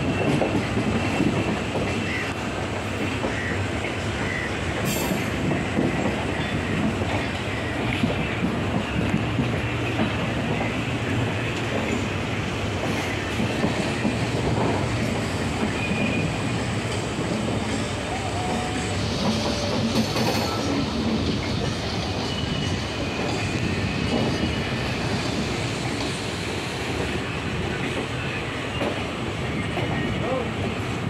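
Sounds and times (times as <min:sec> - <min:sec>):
train coaches rumbling: 0:00.0 - 0:31.0.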